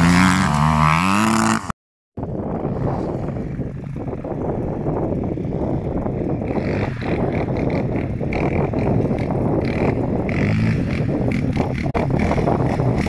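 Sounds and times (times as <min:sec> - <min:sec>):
quad engine running: 0:00.0 - 0:13.0
wind noise on microphone: 0:02.2 - 0:13.0.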